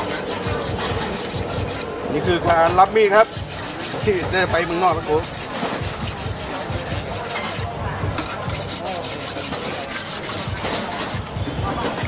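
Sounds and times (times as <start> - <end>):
whetstone scraping knife blade: 0.0 - 1.8, 3.2 - 11.2.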